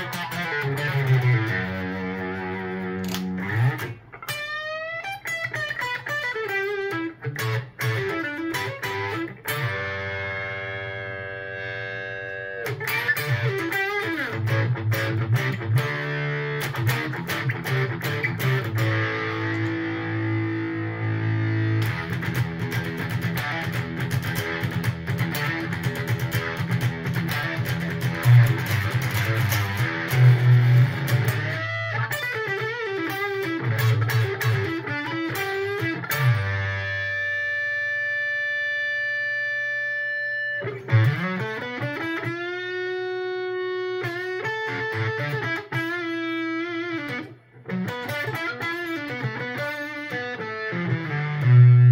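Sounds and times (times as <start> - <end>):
fuzzy electric guitar riffs: 0.0 - 51.9.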